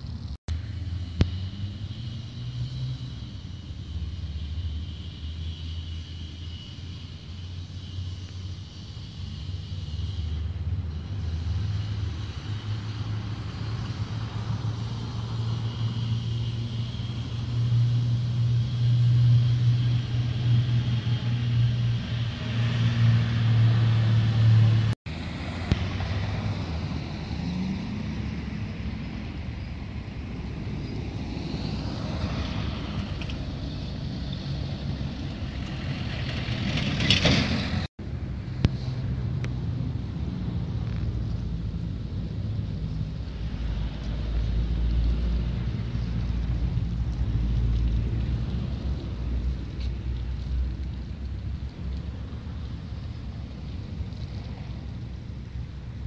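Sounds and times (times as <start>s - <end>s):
tyre and road noise: 0.0s - 56.0s
vehicle engine hum: 0.0s - 56.0s
vehicle passing close by: 0.0s - 56.0s.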